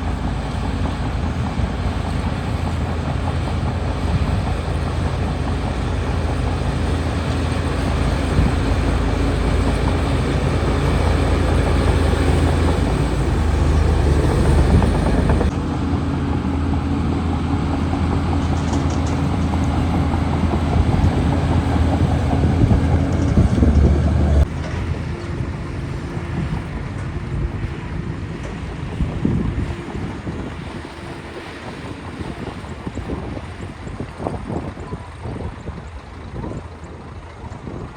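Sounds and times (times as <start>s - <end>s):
bulldozer diesel engine drone: 0.0s - 37.9s.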